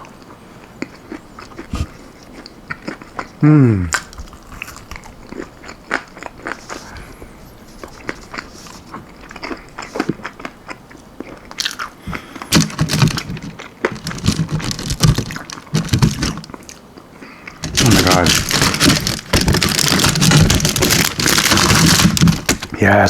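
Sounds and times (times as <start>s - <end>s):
crunchy food chewing: 0.0s - 22.8s.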